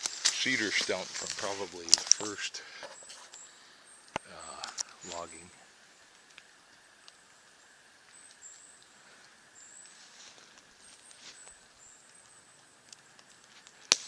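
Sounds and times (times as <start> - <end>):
light ticks: 0.0 - 5.2, 6.1 - 14.0
faint steady hiss: 0.0 - 14.0.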